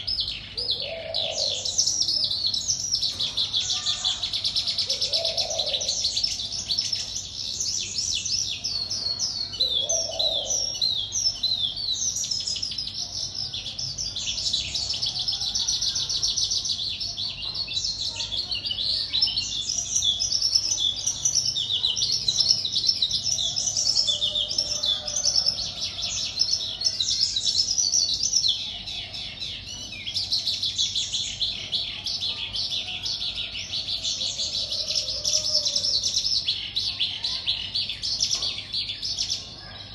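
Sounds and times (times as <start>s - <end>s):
songbird chirping and warbling: 0.0s - 39.9s.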